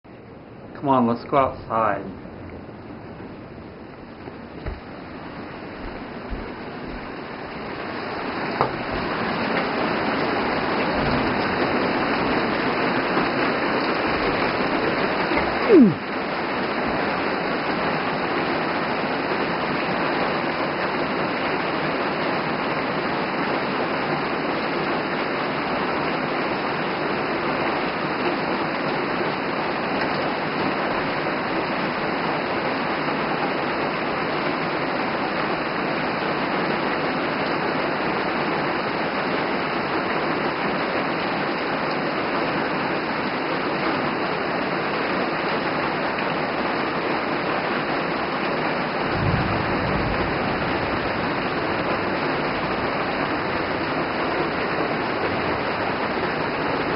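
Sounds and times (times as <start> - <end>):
heavy rain on forest: 0.1 - 56.9.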